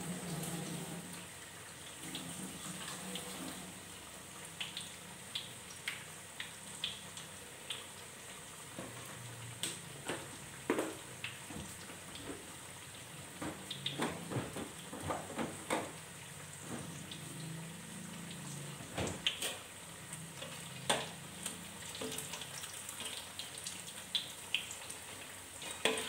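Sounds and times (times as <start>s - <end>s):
food deep-frying in oil: 0.0s - 26.0s
oil popping and crackling: 4.4s - 26.0s.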